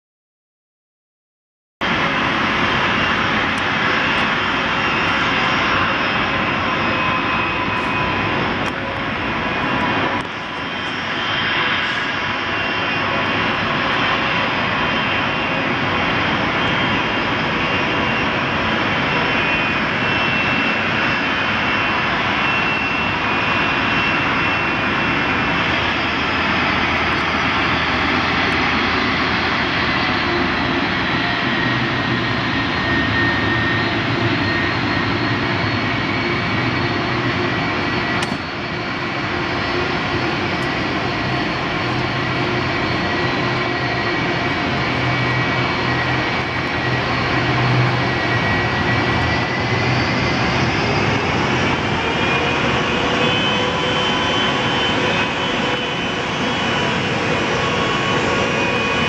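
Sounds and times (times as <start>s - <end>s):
jet engines rumbling with high whine: 1.8s - 59.0s.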